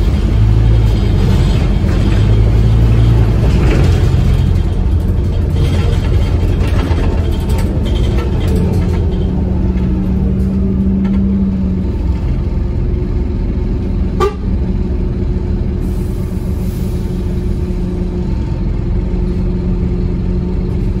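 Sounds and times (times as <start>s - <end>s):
bus diesel engine rumbling: 0.0s - 21.0s.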